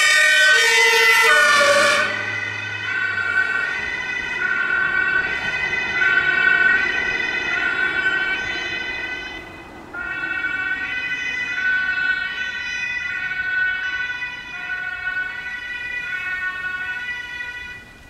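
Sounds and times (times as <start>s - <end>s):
ambulance two-tone siren: 0.0s - 18.0s.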